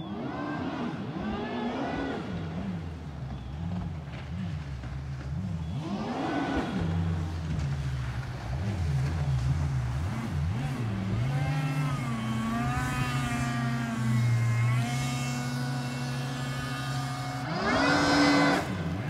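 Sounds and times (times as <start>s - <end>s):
boat engine revving: 0.0s - 19.0s.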